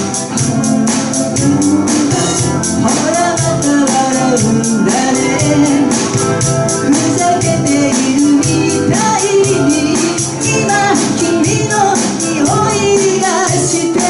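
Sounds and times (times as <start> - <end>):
bass: 0.0 - 14.0
drums: 0.0 - 14.0
keyboard: 0.0 - 14.0
person singing: 0.0 - 14.0
quick tambourine or hi-hat beat: 0.0 - 14.0.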